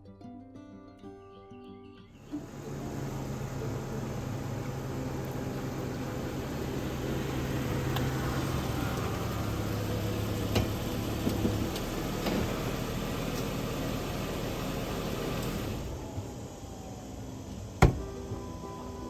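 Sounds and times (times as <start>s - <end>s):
car engine idling: 2.3s - 18.2s.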